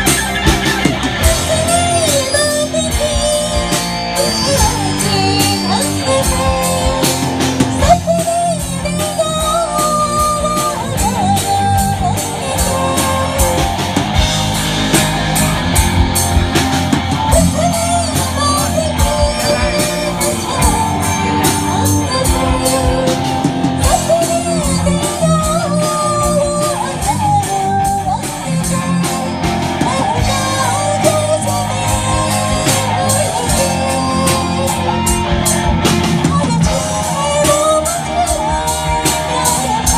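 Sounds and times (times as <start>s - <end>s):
person singing: 0.0s - 15.9s, 16.9s - 39.9s
bass guitar: 0.0s - 39.9s
electric guitar: 0.0s - 39.9s
steady drum beat: 0.0s - 39.9s.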